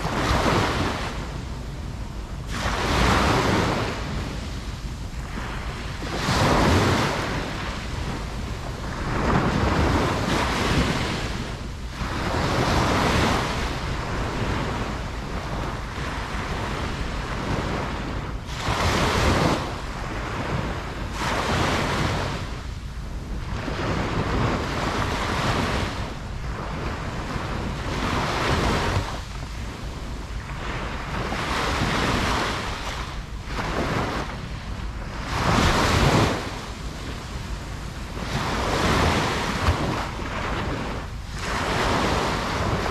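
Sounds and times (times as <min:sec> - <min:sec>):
ocean waves breaking on beach: 0:00.0 - 0:42.9
wind buffeting microphone: 0:00.0 - 0:42.9.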